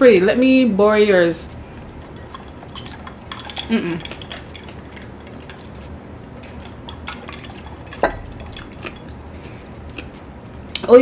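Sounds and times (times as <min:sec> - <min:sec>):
steady low hum: 0:00.0 - 0:11.0
drips: 0:01.4 - 0:11.0.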